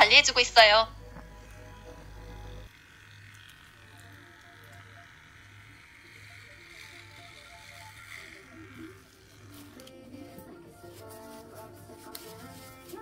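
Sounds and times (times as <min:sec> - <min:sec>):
soft background music: 0:00.0 - 0:13.0
pet hair clipper buzzing: 0:00.6 - 0:13.0.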